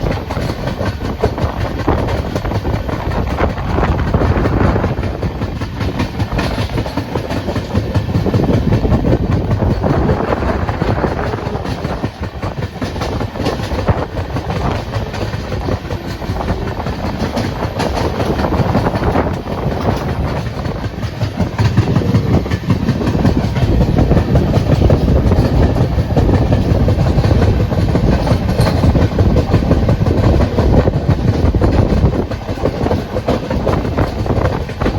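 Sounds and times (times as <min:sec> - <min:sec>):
train rumbling and clattering: 0:00.0 - 0:34.9.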